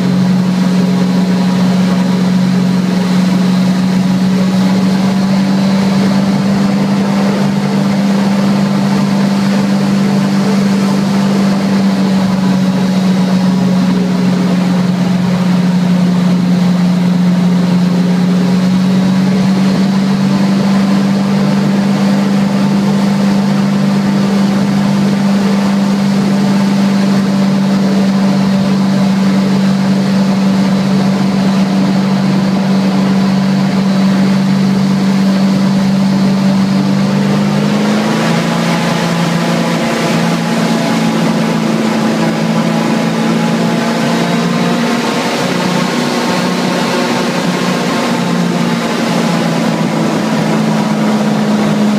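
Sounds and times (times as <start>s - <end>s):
airboat engine drone: 0.0s - 51.9s.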